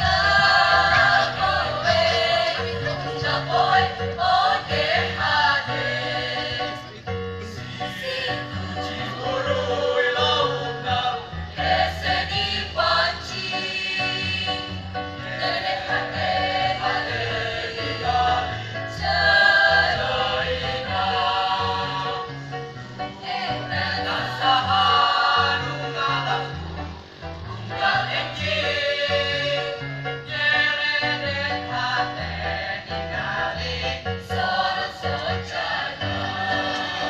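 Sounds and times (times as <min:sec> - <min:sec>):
choir singing in harmony: 0:00.0 - 0:37.0.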